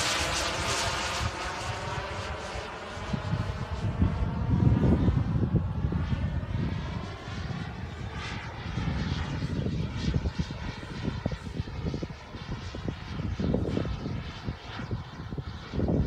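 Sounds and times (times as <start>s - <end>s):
model airplane motor drone: 0.0s - 16.0s.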